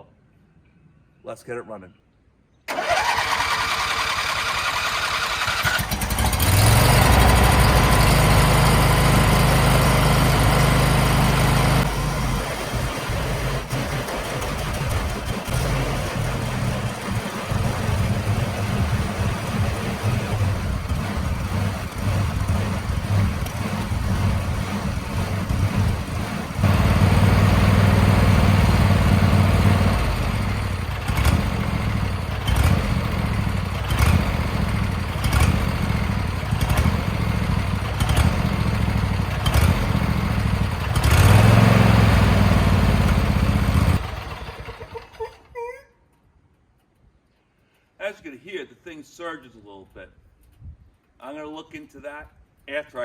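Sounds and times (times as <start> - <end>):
riding mower engine surging: 2.7 - 45.2.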